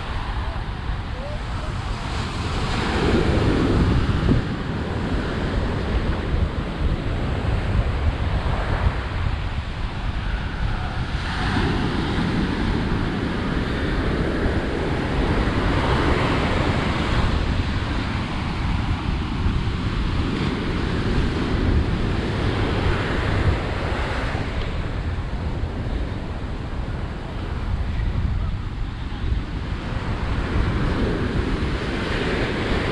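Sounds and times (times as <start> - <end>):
ocean surf breaking: 0.0 - 32.9
wind rumbling on microphone: 0.0 - 32.9.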